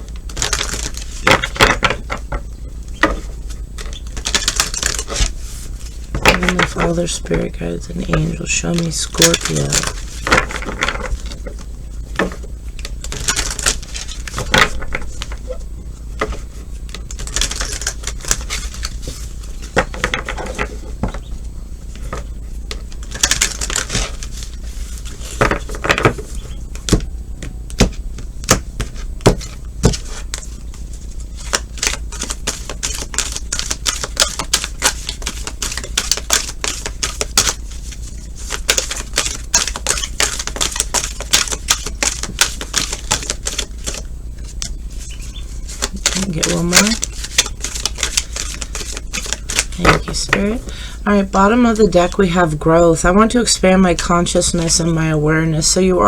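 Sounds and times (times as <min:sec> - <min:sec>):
cards being shuffled: 0:00.0 - 0:15.6, 0:16.2 - 0:21.2, 0:21.9 - 0:55.1.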